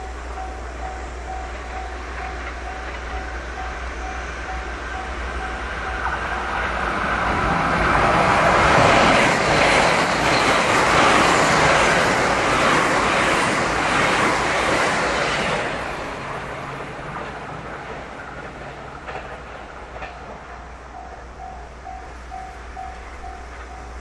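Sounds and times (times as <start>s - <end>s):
electric train passing at speed: 0.0s - 24.0s.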